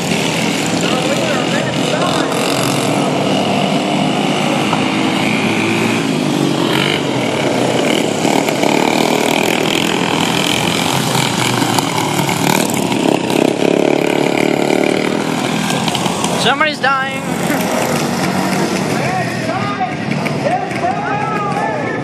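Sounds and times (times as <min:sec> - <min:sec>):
racing lawn mower engines: 0:00.0 - 0:22.0.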